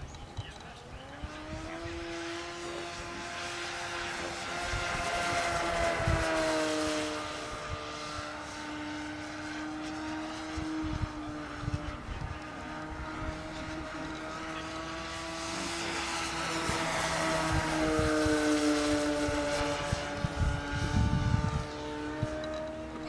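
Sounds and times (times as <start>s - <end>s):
model airplane motor whining: 0.0s - 23.0s.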